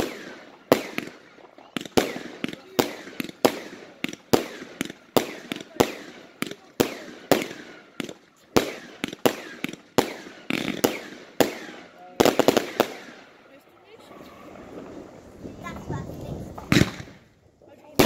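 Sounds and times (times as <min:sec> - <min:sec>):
aerial fireworks bangs: 0:00.0 - 0:13.3, 0:14.5 - 0:17.3.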